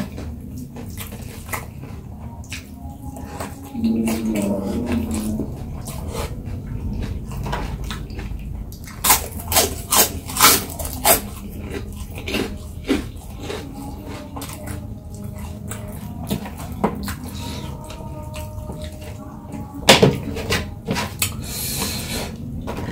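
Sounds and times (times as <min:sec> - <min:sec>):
chewing crispy food: 0:00.0 - 0:22.9.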